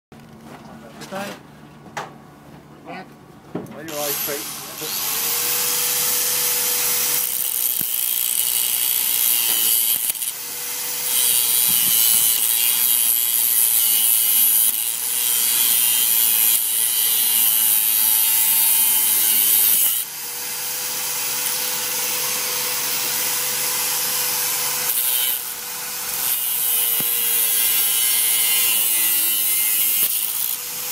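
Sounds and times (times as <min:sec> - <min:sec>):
grinder disc cutting steel cable: 0:03.9 - 0:30.9.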